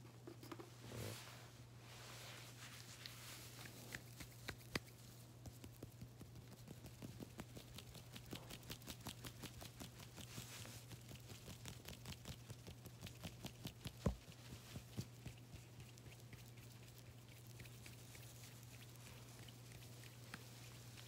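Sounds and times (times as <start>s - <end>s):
low steady hum: 0.0s - 21.0s
hands rubbing and tapping: 2.5s - 21.0s.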